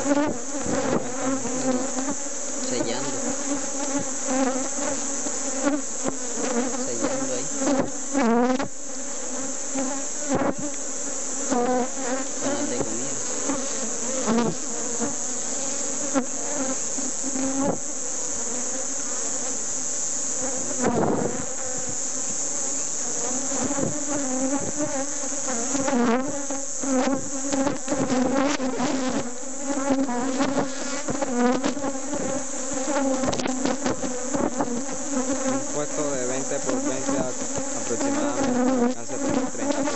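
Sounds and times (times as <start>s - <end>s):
bees buzzing: 0.0s - 39.9s
bees flying past: 0.0s - 39.9s.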